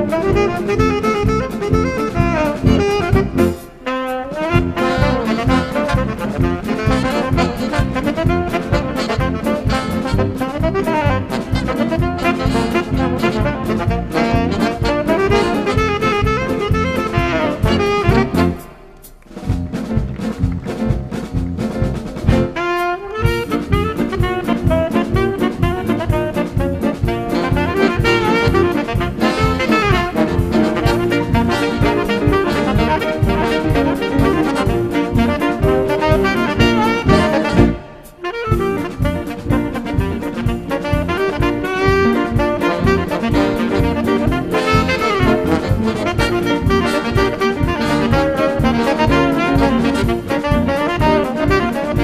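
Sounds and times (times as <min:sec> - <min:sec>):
live jazz band: 0:00.0 - 0:52.0.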